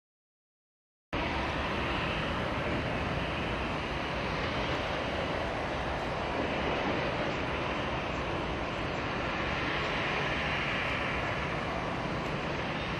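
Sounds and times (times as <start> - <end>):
jet engines running at low thrust: 1.2 - 12.9.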